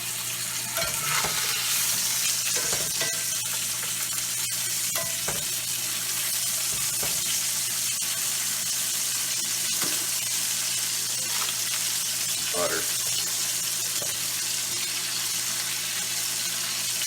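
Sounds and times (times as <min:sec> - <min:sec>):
steaks sizzling in skillet: 0:00.0 - 0:17.0.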